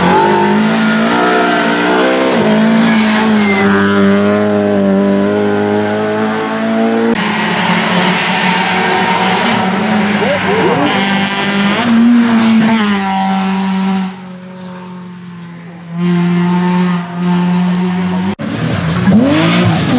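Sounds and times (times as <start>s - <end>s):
rally car engine revving: 0.0s - 19.9s.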